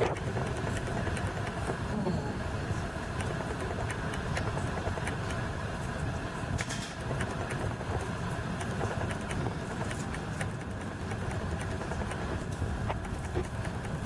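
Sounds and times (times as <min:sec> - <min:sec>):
electric train low rumble: 0:00.0 - 0:14.0.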